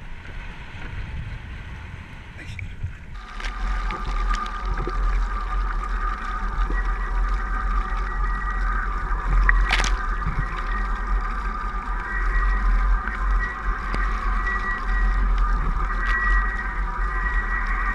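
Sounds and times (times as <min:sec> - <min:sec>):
steady high hum: 0:00.0 - 0:17.9
water rushing and spraying: 0:03.2 - 0:17.9.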